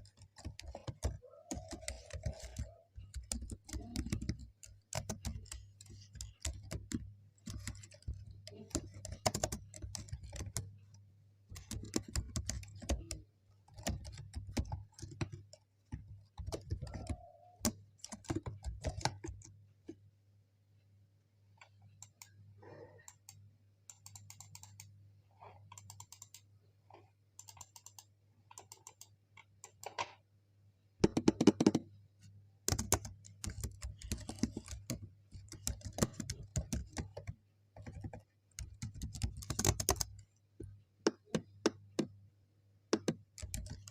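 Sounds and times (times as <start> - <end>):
keyboard typing: 0.0 - 20.0, 21.6 - 22.4, 23.0 - 25.0, 25.6 - 26.5, 27.4 - 30.2, 31.0 - 31.9, 32.7 - 42.2, 42.9 - 43.9.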